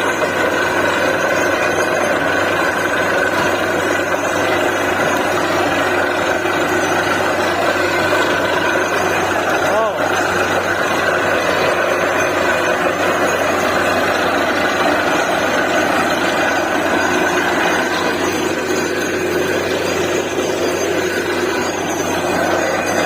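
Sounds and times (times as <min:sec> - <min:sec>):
drilling rig engine running: 0:00.0 - 0:23.0.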